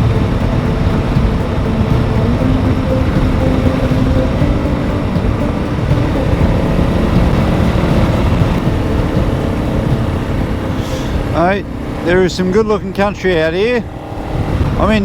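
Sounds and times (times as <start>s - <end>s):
low rumbling noise: 0.0s - 15.0s
motorcycle engine running: 0.0s - 15.0s.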